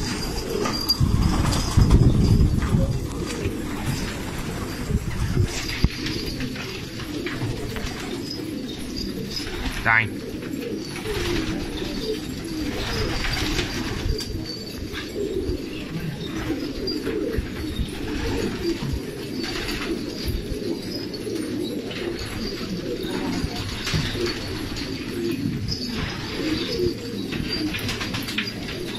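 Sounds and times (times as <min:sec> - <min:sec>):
pigeons cooing: 0:00.0 - 0:28.9.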